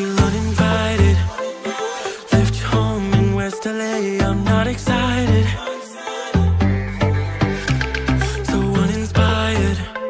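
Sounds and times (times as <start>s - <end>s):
pop music with bass and drums: 0.0s - 10.0s.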